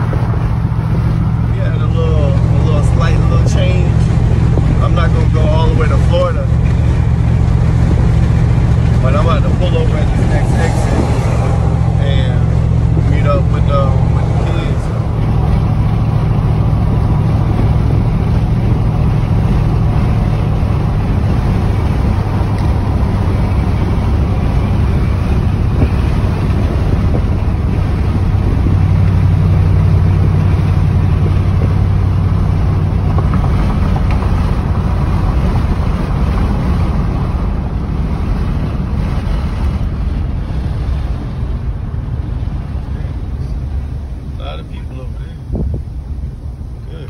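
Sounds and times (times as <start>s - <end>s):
truck engine rumbling: 0.0s - 47.0s
tyre and road noise: 0.0s - 47.0s.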